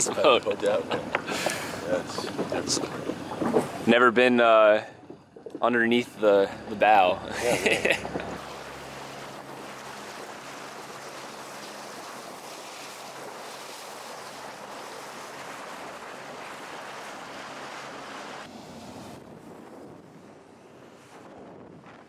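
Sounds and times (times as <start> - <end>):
water rushing along boat: 0.0 - 22.0.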